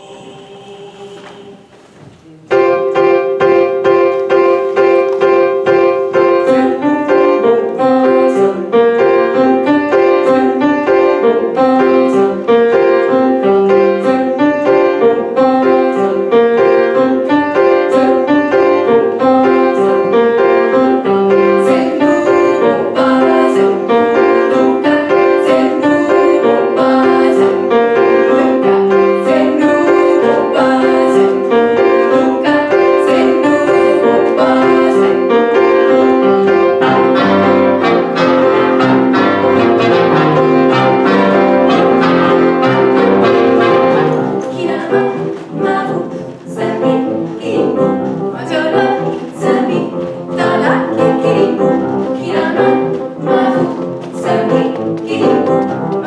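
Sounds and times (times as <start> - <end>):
grand piano repeating figure: 2.4 - 56.0.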